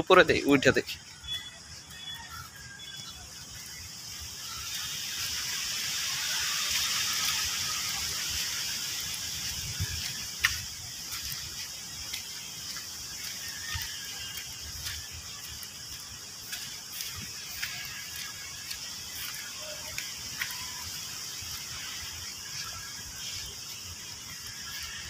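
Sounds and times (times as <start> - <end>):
wind rushing through trees: 0.0 - 25.0.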